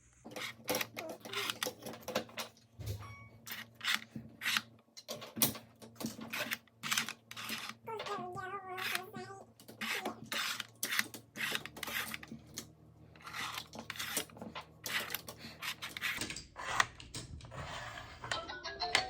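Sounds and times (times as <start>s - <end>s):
plastic toy pieces scraping and clicking: 0.2s - 2.7s, 3.4s - 18.4s.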